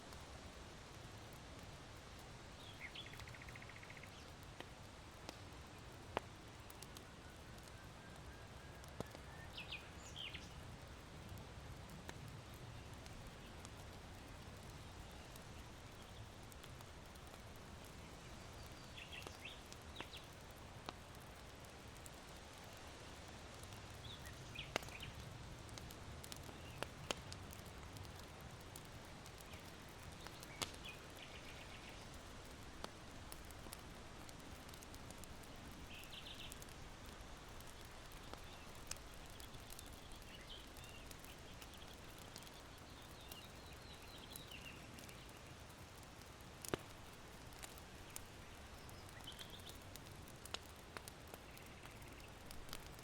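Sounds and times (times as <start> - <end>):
burning charcoal popping: 0.0 - 53.0
faint wind-like hiss: 0.0 - 53.0
small birds chirping: 2.5 - 4.5, 8.8 - 11.3, 12.4 - 33.4, 34.5 - 53.0.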